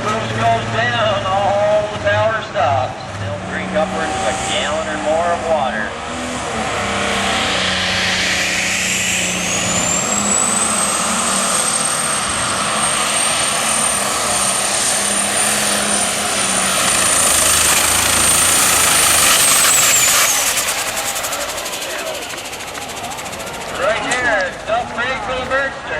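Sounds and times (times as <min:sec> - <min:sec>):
diesel engine roaring: 0:00.0 - 0:25.9
turbocharger whine: 0:00.0 - 0:25.9.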